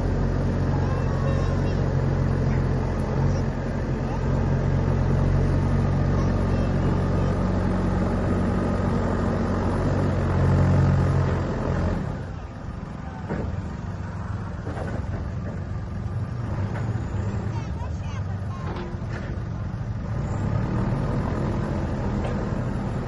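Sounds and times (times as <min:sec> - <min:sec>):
diesel engine running hard: 0:00.0 - 0:23.0.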